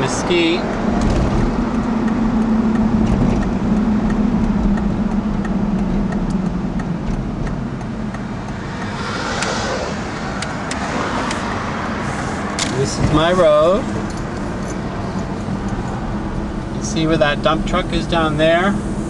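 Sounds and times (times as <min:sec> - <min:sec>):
car engine hum: 0:00.0 - 0:19.0
road noise inside car: 0:00.0 - 0:19.0.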